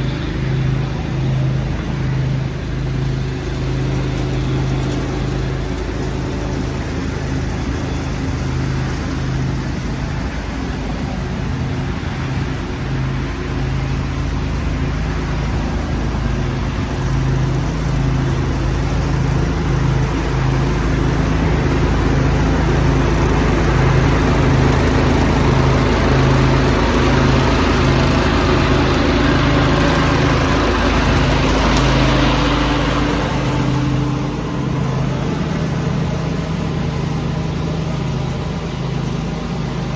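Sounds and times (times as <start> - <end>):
lawn tractor engine running: 0.0 - 39.9
leaf vacuum rushing air: 0.0 - 39.9.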